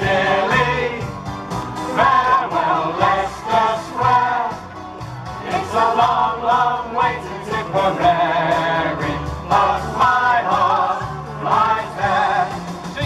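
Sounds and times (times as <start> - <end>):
backing music with bass line: 0.0 - 13.0
group of people singing: 0.0 - 13.0.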